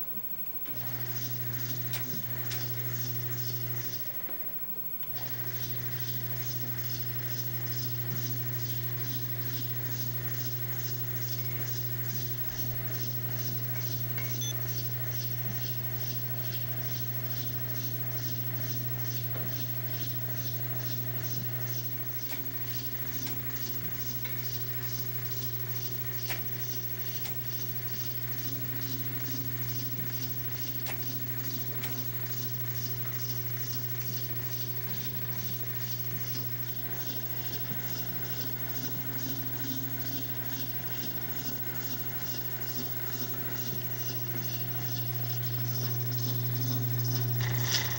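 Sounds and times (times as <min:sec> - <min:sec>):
mechanism ticking: 0:00.0 - 0:47.9
motor humming: 0:00.0 - 0:47.9.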